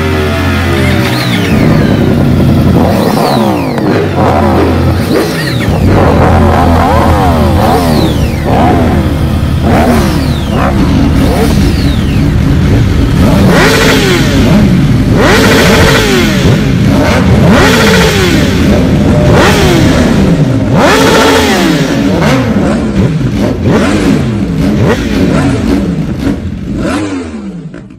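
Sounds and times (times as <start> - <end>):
motorcycle engines revving: 0.0 - 27.9.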